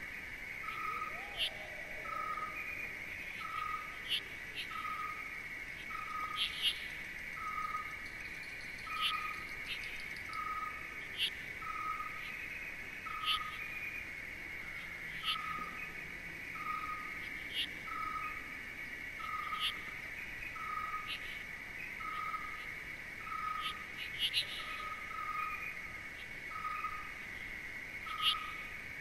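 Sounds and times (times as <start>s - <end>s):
insect high drone: 0.0s - 29.0s.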